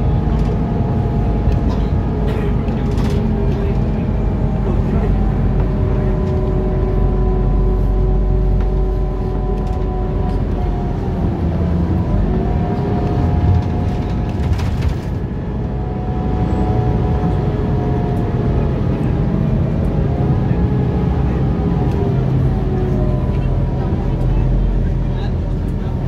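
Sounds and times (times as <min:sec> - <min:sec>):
bus drivetrain drone: 0:00.0 - 0:26.0
bus whine: 0:00.0 - 0:26.0
low road rumble: 0:00.0 - 0:26.0.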